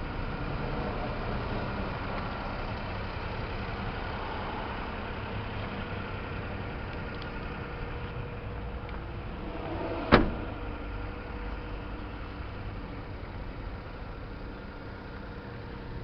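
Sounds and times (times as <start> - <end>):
small engine idling: 0.0 - 9.6, 10.6 - 16.0.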